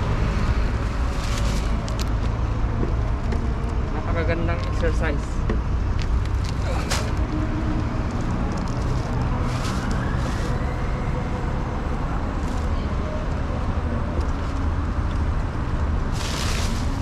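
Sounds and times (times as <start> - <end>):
car and road rumble: 0.0 - 17.0.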